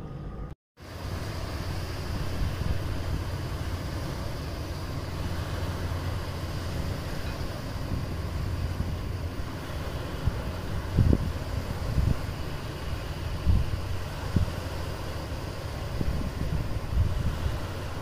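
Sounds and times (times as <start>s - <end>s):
boat engine rumble: 0.0s - 18.0s
water hiss: 0.8s - 18.0s.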